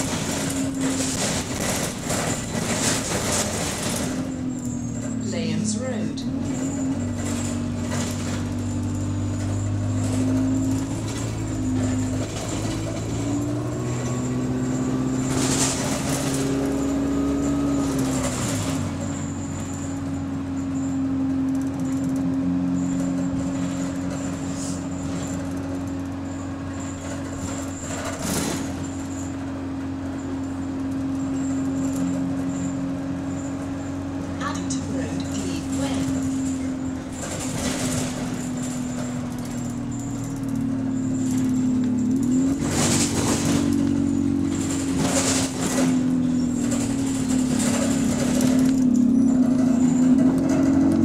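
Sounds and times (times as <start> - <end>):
knocks and rattles: 0.0 - 5.3, 6.4 - 51.0
bus diesel engine running: 0.0 - 51.0.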